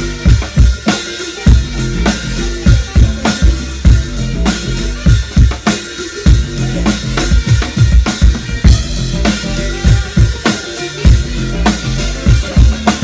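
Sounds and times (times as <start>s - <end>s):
bass line: 0.0s - 13.0s
live band music: 0.0s - 13.0s.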